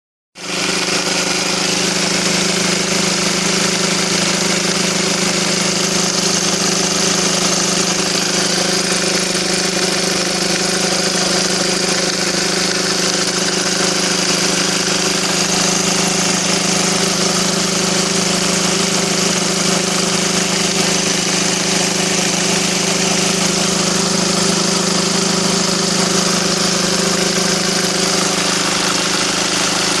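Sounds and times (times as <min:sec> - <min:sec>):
engine idling with a knock: 0:00.5 - 0:30.0.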